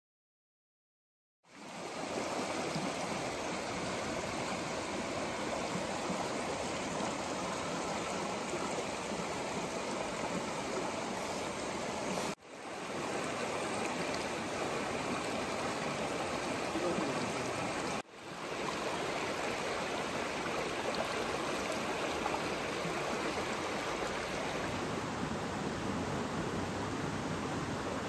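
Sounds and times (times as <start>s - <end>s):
stream running over stones: 1.5s - 24.9s.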